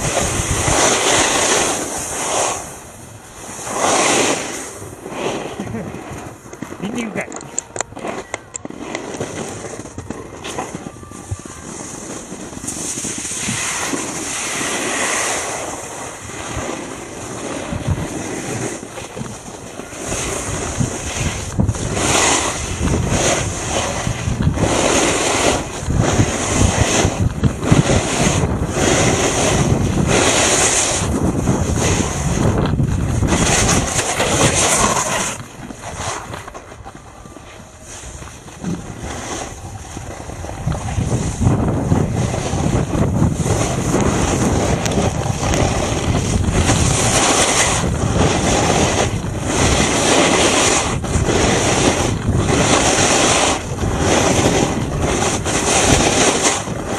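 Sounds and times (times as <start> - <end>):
snowboard scraping over snow: 0.0 - 56.9
wind on microphone: 0.0 - 56.9.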